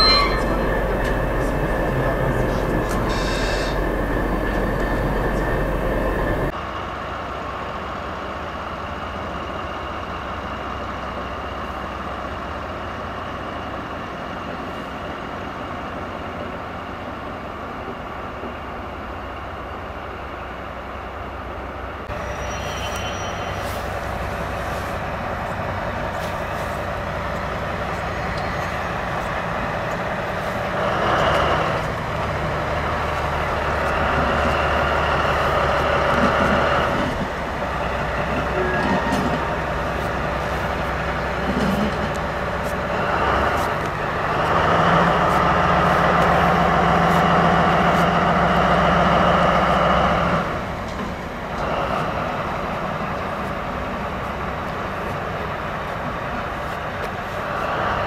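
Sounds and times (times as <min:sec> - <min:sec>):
train rail noise: 0:00.0 - 0:58.0.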